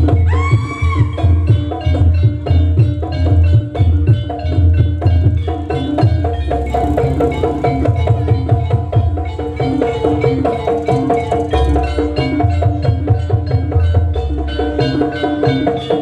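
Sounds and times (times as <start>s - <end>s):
gong-chimes playing interlocking notes: 0.0s - 16.0s
hand drums: 0.0s - 16.0s.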